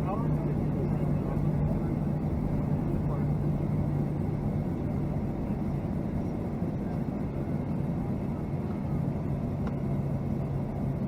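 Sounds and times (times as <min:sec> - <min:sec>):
airliner cabin jet drone: 0:00.0 - 0:11.0.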